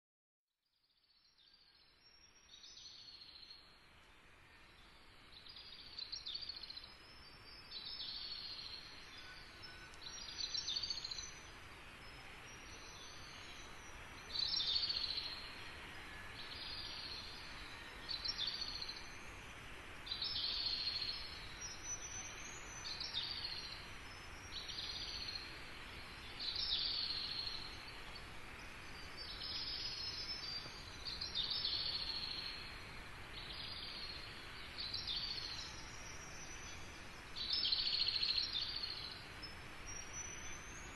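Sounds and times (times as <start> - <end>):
bird chirping: 1.0 - 40.9
steady background noise: 3.6 - 40.9.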